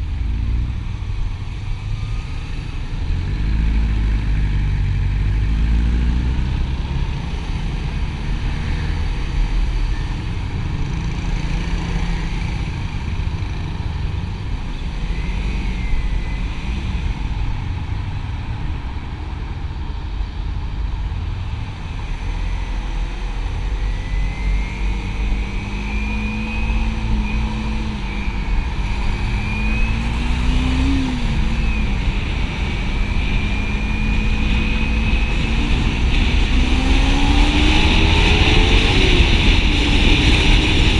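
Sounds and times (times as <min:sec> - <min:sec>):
road and wind noise: 0:00.0 - 0:40.9.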